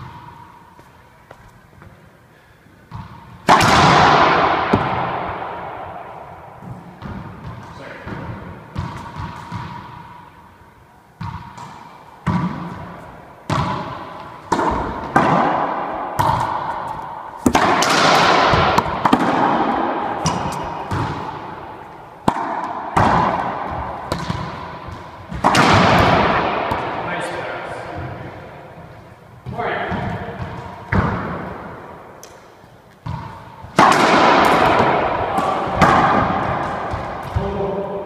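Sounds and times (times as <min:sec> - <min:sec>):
racquetball hits echoing: 0:00.0 - 0:38.0.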